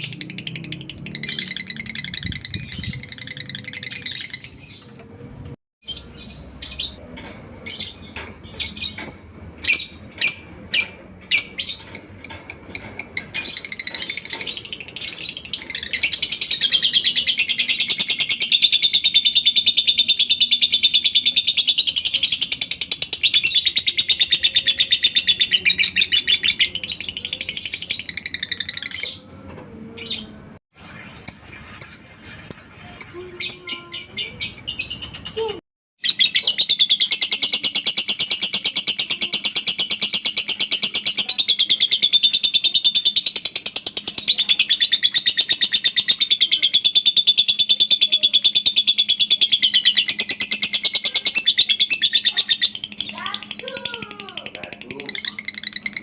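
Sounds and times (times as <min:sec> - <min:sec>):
lovebird chirping and trilling: 0:00.0 - 0:05.0, 0:05.8 - 0:07.0, 0:07.6 - 0:29.4, 0:30.0 - 0:56.0.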